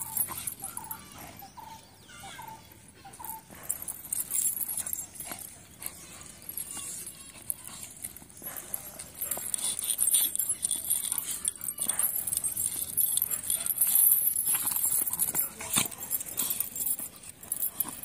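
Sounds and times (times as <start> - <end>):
dogs play-fighting: 0.0 - 18.0
metal chain rattling: 0.0 - 18.0.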